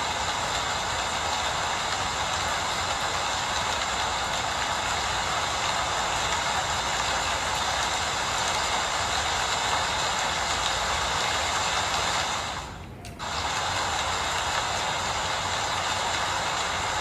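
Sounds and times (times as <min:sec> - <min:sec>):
steady rainfall hiss: 0:00.0 - 0:17.0.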